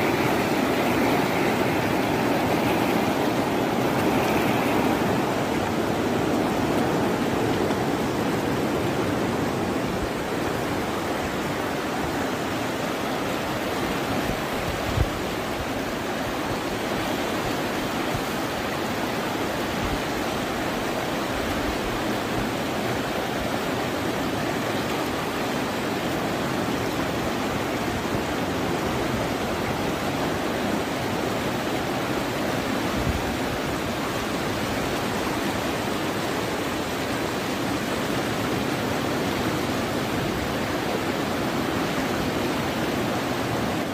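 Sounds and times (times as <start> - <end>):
river rushing: 0.0 - 43.9.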